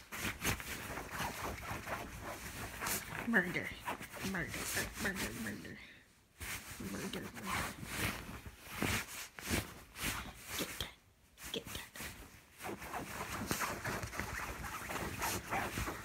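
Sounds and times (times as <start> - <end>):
duvet cover rustling: 0.0 - 16.0.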